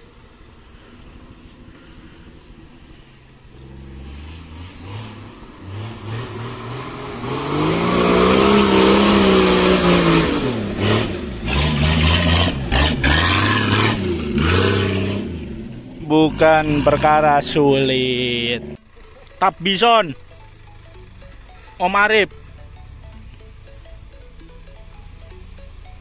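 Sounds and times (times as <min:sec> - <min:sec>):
off-road vehicle engine revving: 0:01.3 - 0:24.1.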